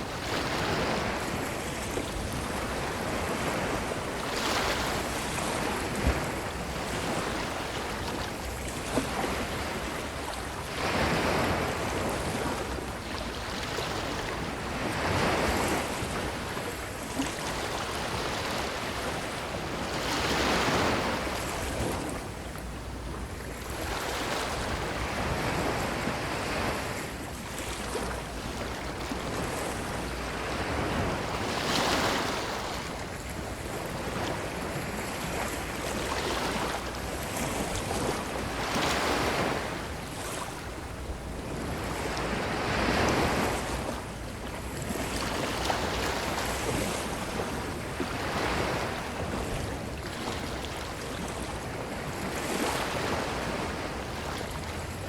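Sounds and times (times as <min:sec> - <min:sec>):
ocean waves washing onto beach: 0:00.0 - 0:55.0.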